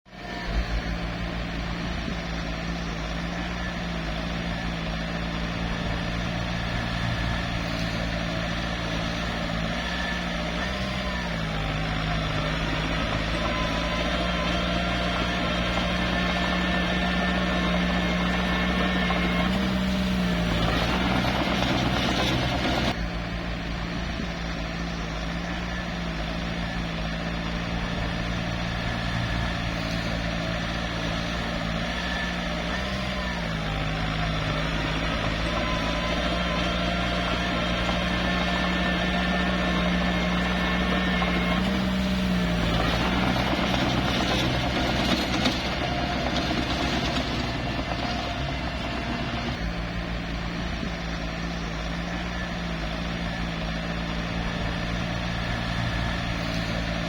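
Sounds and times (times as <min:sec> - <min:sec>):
bulldozer diesel engine running: 0:00.1 - 0:57.0.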